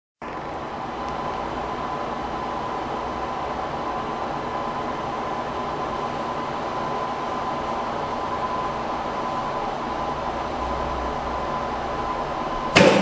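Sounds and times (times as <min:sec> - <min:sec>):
thin steady whine: 0:00.2 - 0:13.0.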